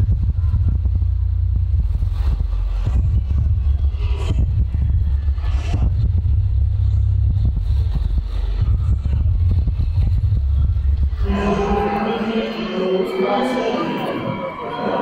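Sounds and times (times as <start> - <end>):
loud low rumble: 0.0 - 12.2.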